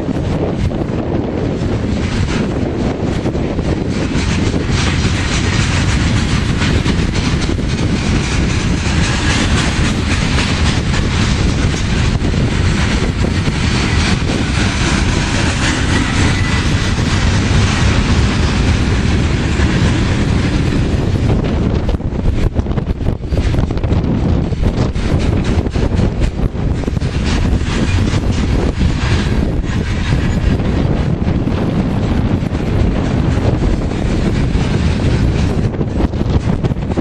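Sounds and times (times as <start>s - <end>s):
train cars rolling past: 0.0s - 37.0s
wheels clicking over rail joints: 0.1s - 37.0s.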